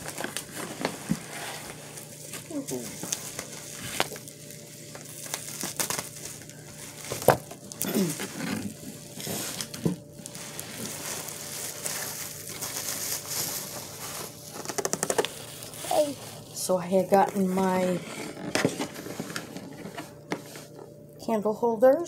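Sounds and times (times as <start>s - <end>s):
packaging rustling and crinkling: 0.0s - 20.9s.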